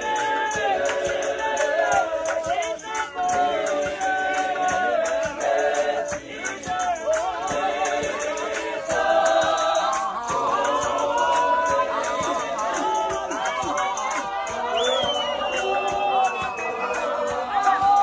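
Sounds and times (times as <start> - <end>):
group singing gospel in harmony: 0.0 - 18.0
hand claps: 0.0 - 18.0.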